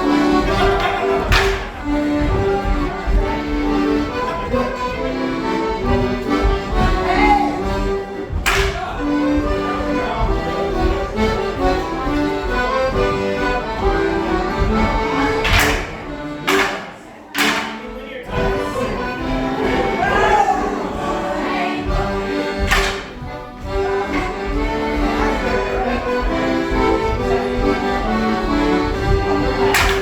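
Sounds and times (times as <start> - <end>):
accordion dance tune: 0.0 - 30.0.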